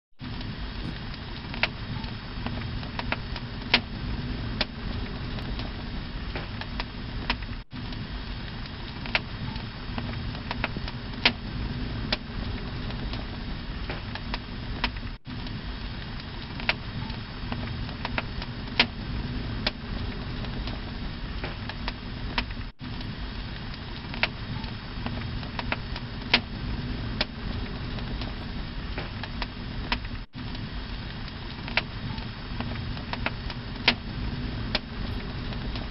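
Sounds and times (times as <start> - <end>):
fire crackles and pops: 0.2 - 35.9
torch flames rumbling: 0.2 - 35.9.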